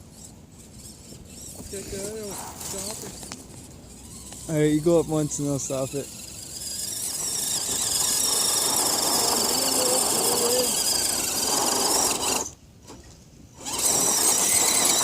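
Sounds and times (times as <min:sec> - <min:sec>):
toy car motor whirring: 0:00.0 - 0:15.0.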